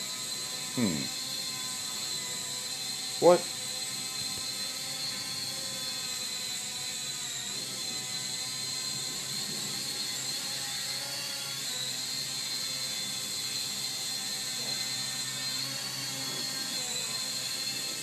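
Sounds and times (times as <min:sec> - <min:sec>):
toy drone motors whining: 0:00.0 - 0:18.0.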